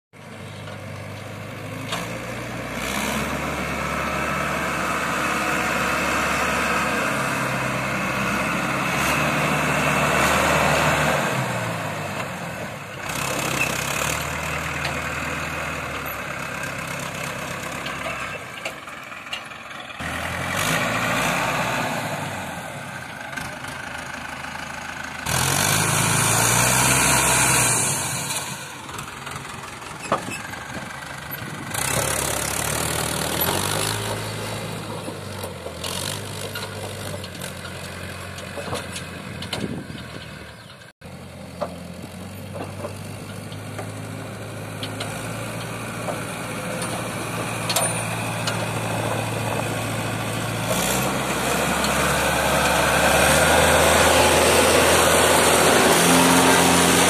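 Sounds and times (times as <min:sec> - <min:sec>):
tractor diesel engine revving: 0:00.2 - 0:57.0.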